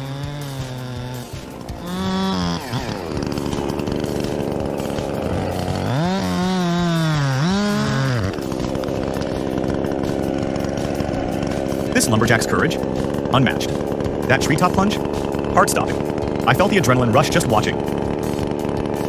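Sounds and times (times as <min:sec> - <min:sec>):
chainsaw cutting at full throttle: 0:00.0 - 0:19.0.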